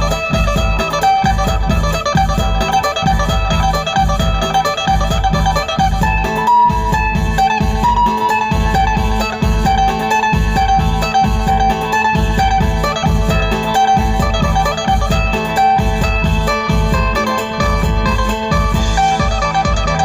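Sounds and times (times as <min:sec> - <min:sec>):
low bass beat: 0:00.0 - 0:20.0
plucked lute melody: 0:00.0 - 0:20.0.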